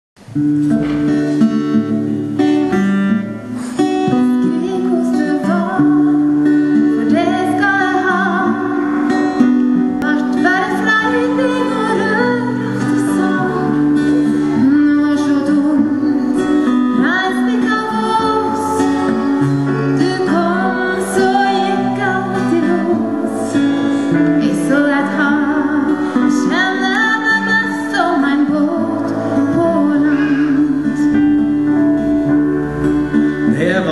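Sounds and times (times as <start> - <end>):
strummed acoustic guitar: 0.2 - 33.9
woman singing: 4.0 - 9.3, 10.0 - 31.9
sustained keyboard chords: 5.6 - 33.9.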